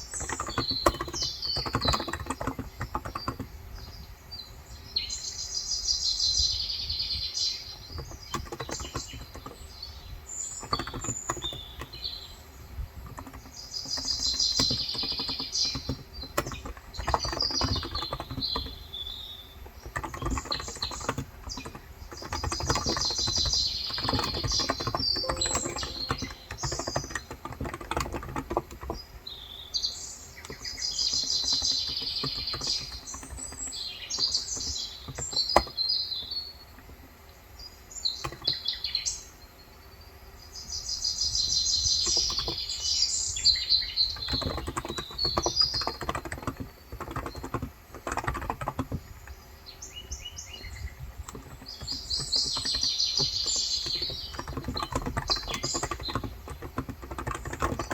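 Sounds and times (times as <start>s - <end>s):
soft keyboard typing: 0.0s - 4.1s, 7.7s - 29.4s, 30.2s - 37.2s, 38.1s - 38.7s, 41.5s - 49.5s, 50.5s - 57.9s
bird chirping: 0.0s - 57.9s.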